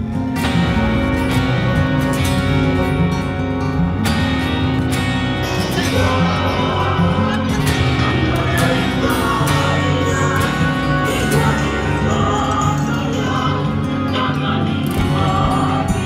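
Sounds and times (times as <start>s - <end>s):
music with singing voice: 0.0s - 16.0s.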